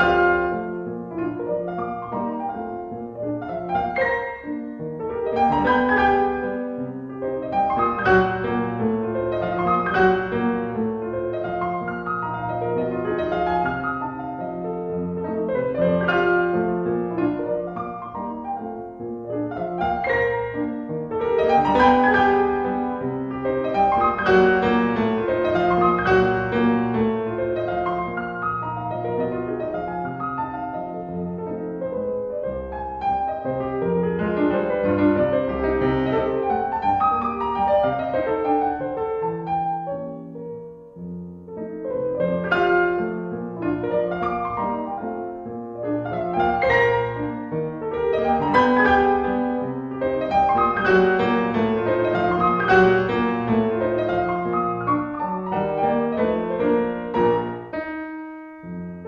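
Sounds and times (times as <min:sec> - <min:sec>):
fast piano music: 0:00.0 - 0:59.0.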